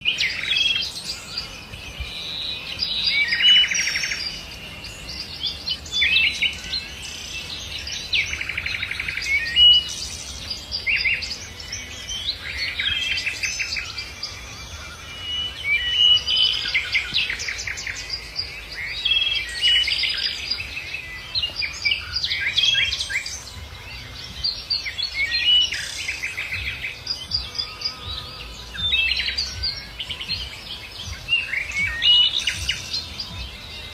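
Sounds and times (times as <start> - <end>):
songbirds chirping and trilling: 0.0 - 33.9.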